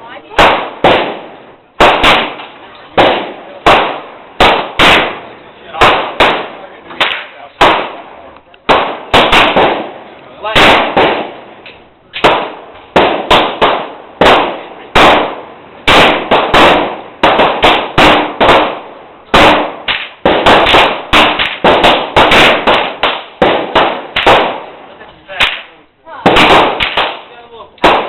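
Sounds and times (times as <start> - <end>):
pistol shots echoing: 0.3 - 11.6, 12.2 - 24.8, 25.4 - 28.0.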